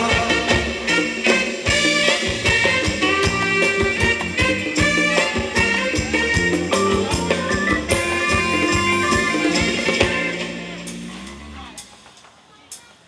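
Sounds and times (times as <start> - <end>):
live band dance music: 0.0 - 13.0
regular drum beat: 0.0 - 13.0.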